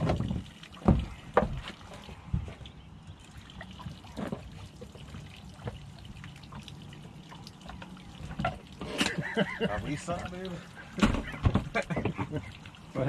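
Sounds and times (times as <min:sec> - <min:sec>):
soft splashes: 0:00.0 - 0:13.0
water trickling and lapping: 0:00.0 - 0:13.0.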